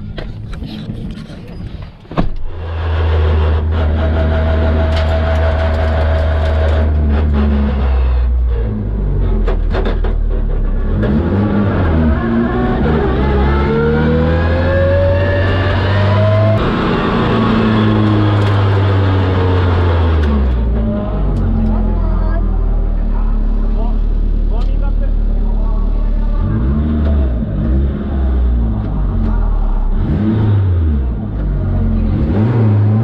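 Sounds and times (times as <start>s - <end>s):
car engine revving: 2.4s - 33.0s.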